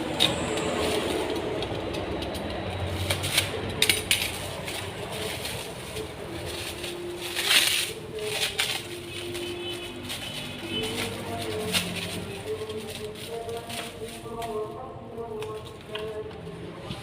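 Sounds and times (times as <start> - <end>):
packaging clicks and knocks: 0.0 - 14.6
packaging rustle: 2.4 - 16.2.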